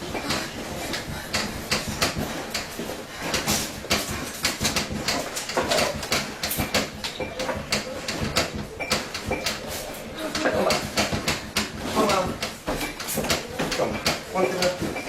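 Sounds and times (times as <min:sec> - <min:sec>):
rapid irregular clattering and knocking: 0:00.0 - 0:15.0.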